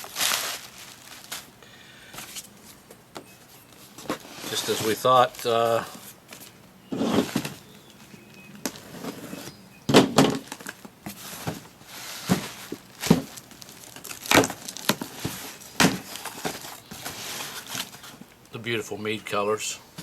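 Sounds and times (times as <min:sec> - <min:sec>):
packaging rustling and scraping: 0:00.0 - 0:01.6, 0:02.2 - 0:18.4.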